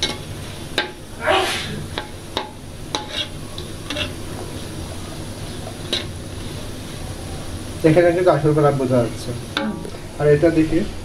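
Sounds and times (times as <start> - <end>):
fritters sizzling in hot oil: 0.0 - 1.2, 1.8 - 10.6.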